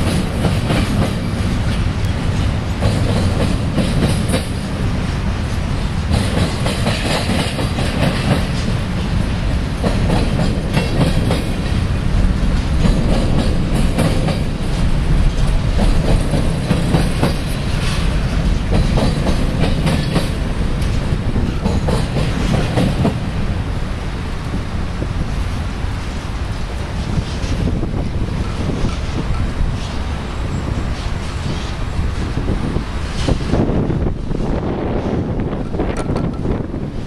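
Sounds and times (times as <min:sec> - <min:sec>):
wheels clicking over rail joints: 0:00.0 - 0:23.4, 0:26.7 - 0:32.3, 0:35.0 - 0:37.0
freight train rumbling past: 0:00.0 - 0:37.0.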